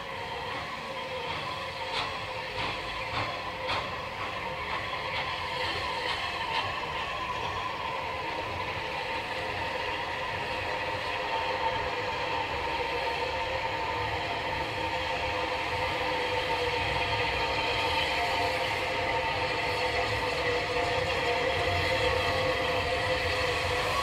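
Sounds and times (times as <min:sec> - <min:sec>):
steam locomotive running: 0:00.0 - 0:24.0.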